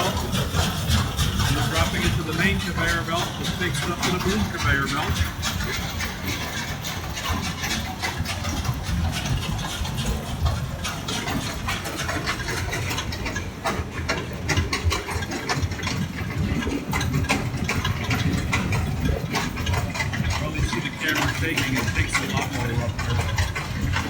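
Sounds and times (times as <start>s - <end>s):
conveyor machinery rumble: 0.0s - 24.0s.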